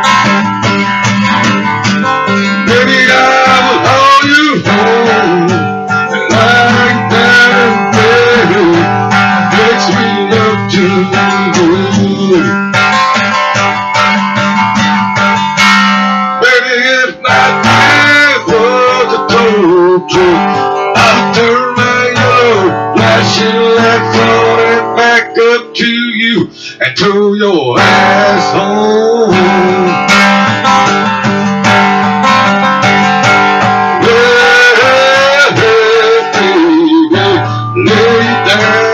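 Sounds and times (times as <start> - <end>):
acoustic guitar strummed: 0.0 - 38.9
man singing: 2.0 - 12.7, 16.4 - 38.9.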